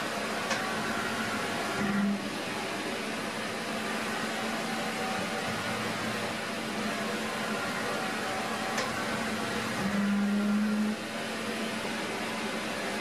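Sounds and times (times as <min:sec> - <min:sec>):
machining center humming: 0:00.0 - 0:13.0.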